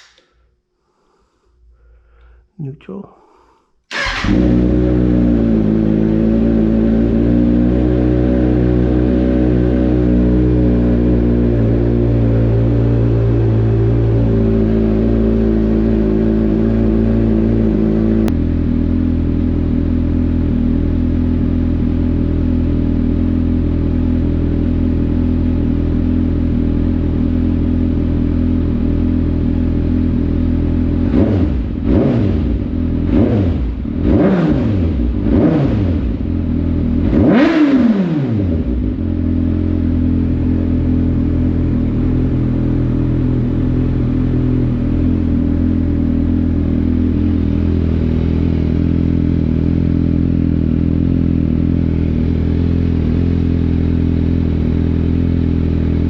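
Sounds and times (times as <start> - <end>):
motorcycle engine idling and revving: 3.9 - 56.0.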